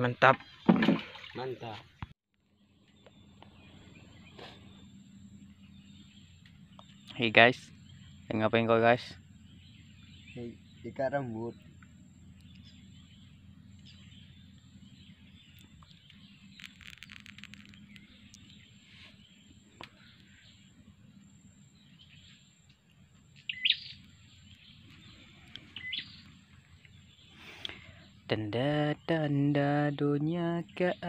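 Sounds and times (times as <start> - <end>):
birds chirping and calling: 2.8 - 28.4.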